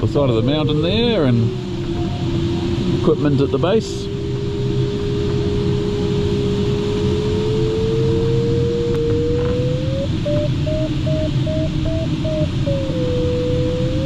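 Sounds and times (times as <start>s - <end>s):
rising electronic tone: 0.0s - 14.0s
rushing airflow: 0.0s - 14.0s.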